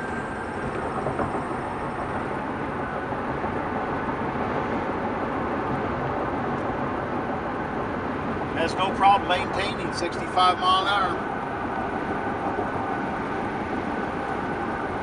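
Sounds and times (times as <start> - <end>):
road and wind noise in cab: 0.0 - 15.0.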